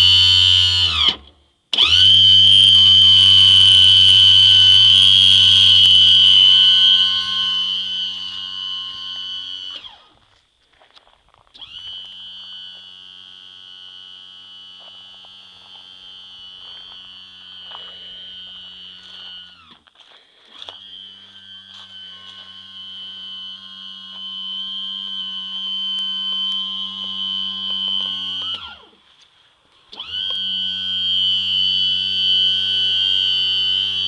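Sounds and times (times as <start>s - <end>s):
electric trim motor whining: 0.0s - 10.2s, 11.5s - 34.0s.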